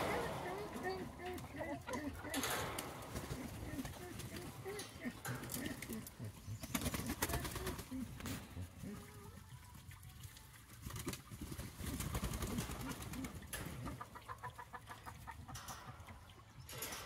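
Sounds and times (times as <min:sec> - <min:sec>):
hens making soft low calls: 0:00.0 - 0:10.4, 0:12.0 - 0:16.8.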